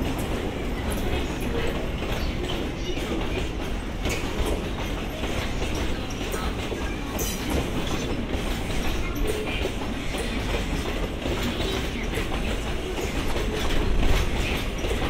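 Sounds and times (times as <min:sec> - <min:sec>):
train rumble: 0:00.0 - 0:15.0
train wheels clacking over rail joints: 0:00.0 - 0:15.0.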